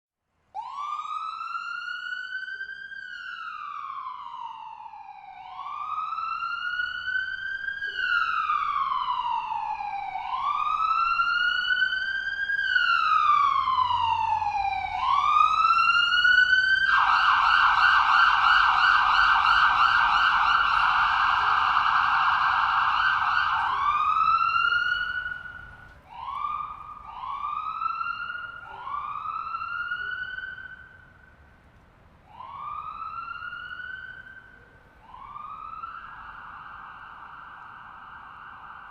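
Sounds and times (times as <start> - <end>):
ambulance siren wailing and yelping: 0.6 - 31.3, 32.3 - 38.9.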